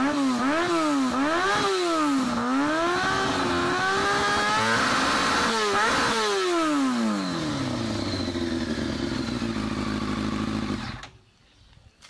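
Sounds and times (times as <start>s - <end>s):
motorcycle engine revving and idling: 0.0s - 11.3s.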